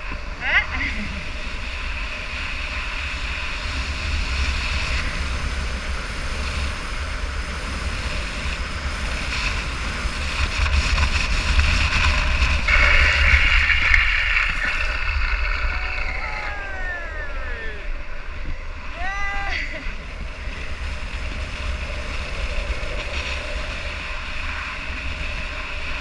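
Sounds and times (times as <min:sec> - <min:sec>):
skate wheels rolling on asphalt: 0:00.0 - 0:26.0
wind buffeting camera: 0:00.0 - 0:26.0.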